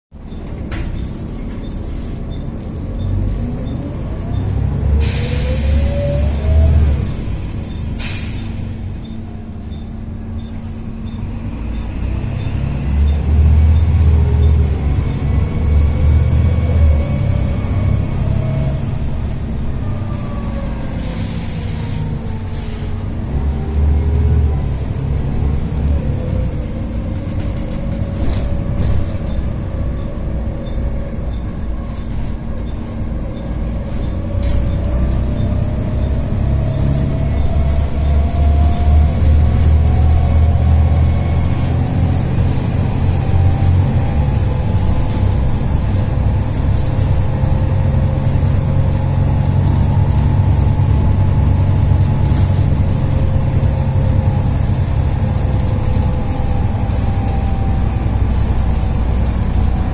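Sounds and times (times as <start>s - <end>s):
bus engine rumble: 0.1s - 59.9s.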